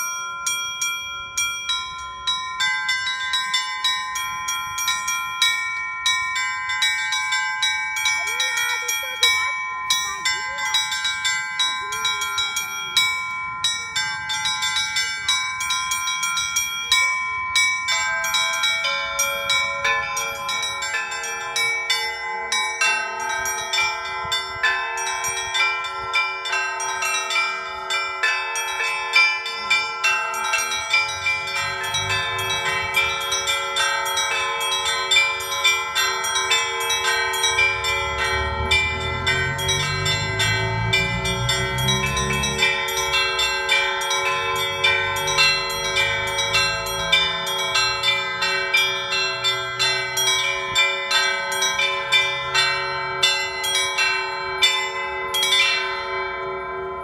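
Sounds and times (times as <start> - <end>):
large low church bells: 0.0 - 57.0
small high church bells: 0.0 - 57.0.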